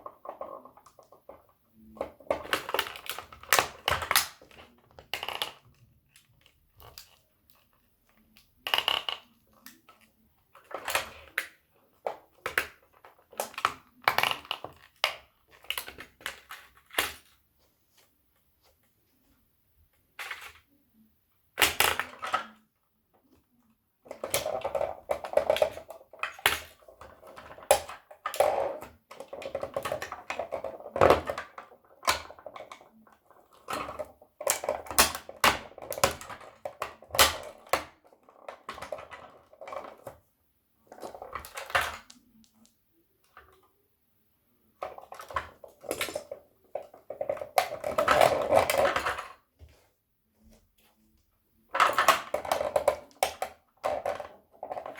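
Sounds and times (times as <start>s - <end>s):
plastic toys cracking and crunching: 0.0s - 17.4s, 21.6s - 22.7s, 24.0s - 40.2s, 40.9s - 43.6s, 44.8s - 49.5s, 51.7s - 54.9s.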